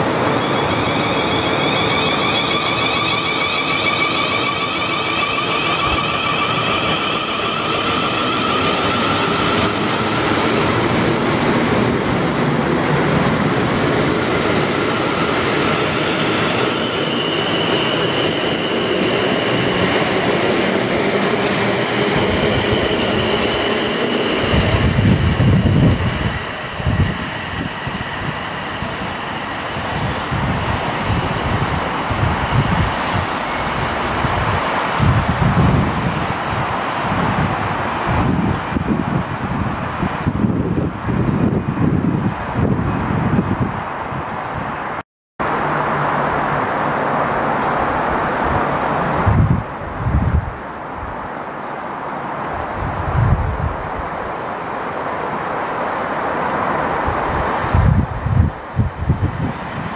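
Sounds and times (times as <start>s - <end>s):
low rumbling of approaching train: 0.0s - 59.9s
wheel and rail noise: 0.0s - 59.9s.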